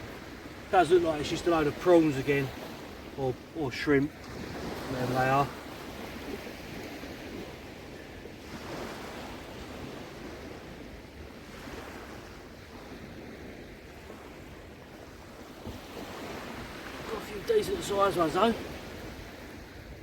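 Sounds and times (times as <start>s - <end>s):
small waves on sandy beach: 0.0s - 20.0s
wind rumbling on microphone: 0.0s - 20.0s.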